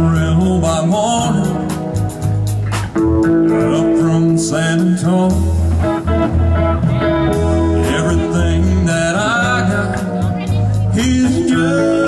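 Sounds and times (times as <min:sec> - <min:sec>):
person singing: 0:00.0 - 0:01.9, 0:03.4 - 0:06.2, 0:06.8 - 0:12.0
guitar: 0:00.0 - 0:12.0
steady bass line: 0:00.0 - 0:12.0.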